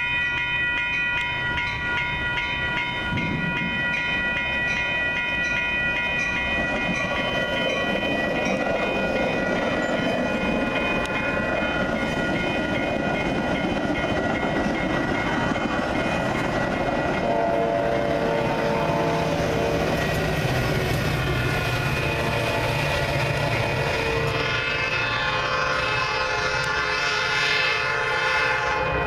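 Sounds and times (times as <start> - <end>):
crossing warning bells ringing: 0.0 - 29.0
train wheels rumbling on rails: 0.0 - 29.0.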